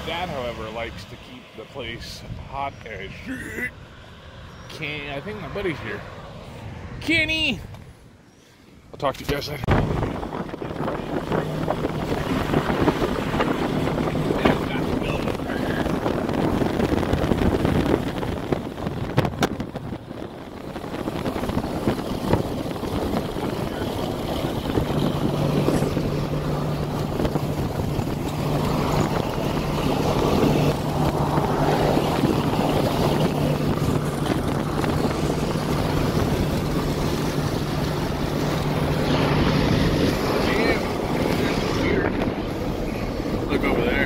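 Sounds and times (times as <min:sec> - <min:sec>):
wind through open window: 0:00.0 - 0:44.0.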